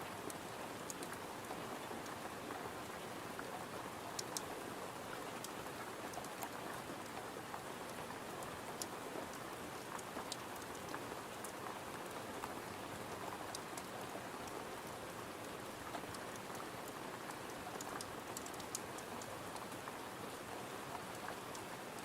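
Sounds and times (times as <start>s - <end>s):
rain hissing on a window: 0.0s - 22.0s
sharp ticks of raindrops: 0.1s - 22.0s.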